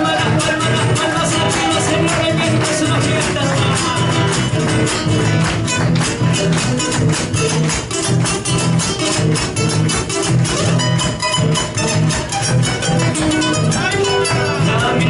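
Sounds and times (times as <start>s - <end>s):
instrumental folk guitar music: 0.0s - 15.0s.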